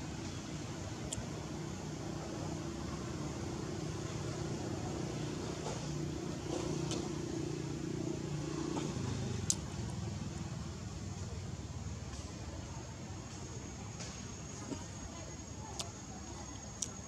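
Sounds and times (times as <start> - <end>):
background hiss: 0.0 - 17.0
low engine hum: 0.0 - 17.0.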